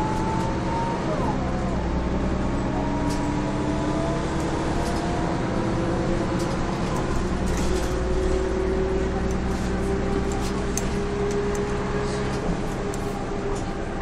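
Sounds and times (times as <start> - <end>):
bus diesel engine under load: 0.0 - 14.0.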